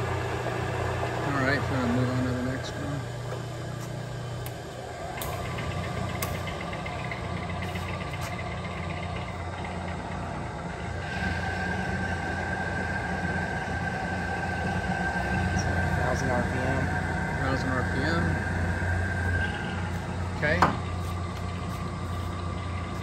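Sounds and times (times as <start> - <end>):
drill press motor humming: 0.0 - 23.0
spindle whine: 0.0 - 23.0.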